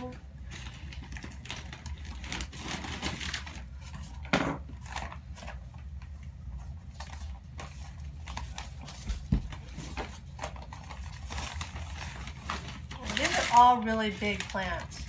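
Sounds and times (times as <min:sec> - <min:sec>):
packing paper rustling: 0:00.0 - 0:15.0.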